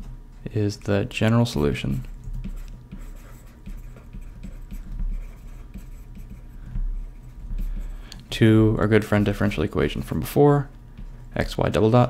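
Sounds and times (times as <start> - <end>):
low steady hum: 0.0 - 12.0
stylus tapping and scratching: 0.8 - 12.0.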